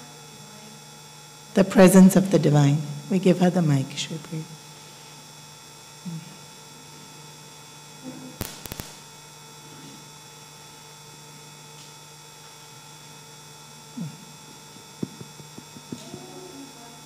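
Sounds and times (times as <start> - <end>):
mains hum: 0.0 - 17.0.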